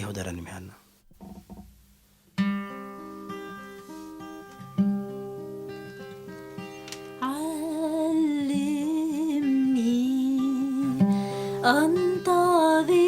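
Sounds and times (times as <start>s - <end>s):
slow acoustic guitar: 1.1s - 13.0s.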